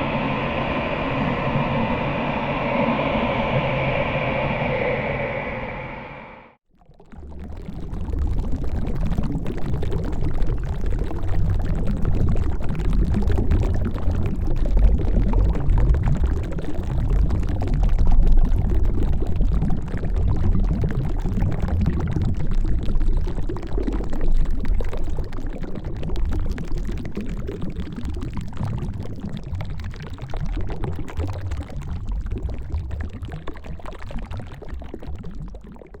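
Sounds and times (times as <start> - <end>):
underwater bubbling: 0.0 - 36.0.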